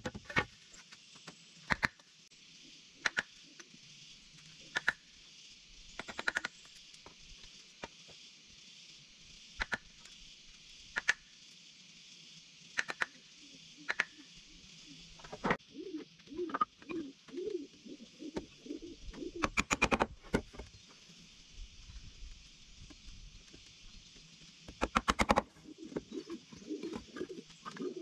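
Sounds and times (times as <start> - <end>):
high hiss: 0.8 - 28.0.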